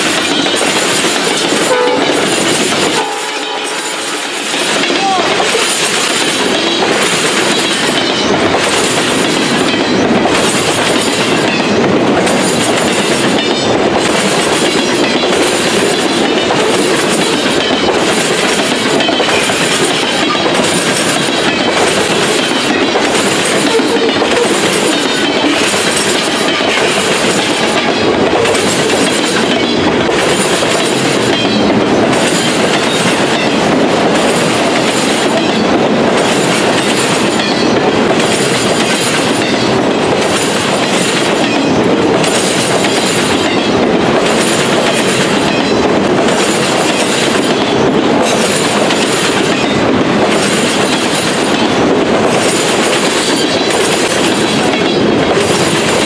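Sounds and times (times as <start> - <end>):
rhythmic train wheel clatter: 0.0 - 56.0
train wheels rumbling on rail: 0.0 - 56.0.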